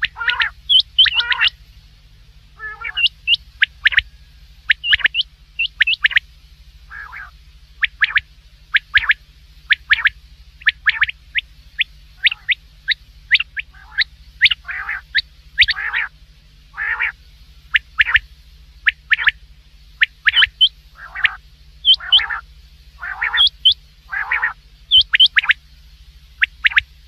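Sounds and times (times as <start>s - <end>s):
quail calling: 0.0s - 1.7s, 2.5s - 19.4s, 20.0s - 25.6s, 26.4s - 26.9s
harsh rasping bird calls: 0.0s - 27.0s.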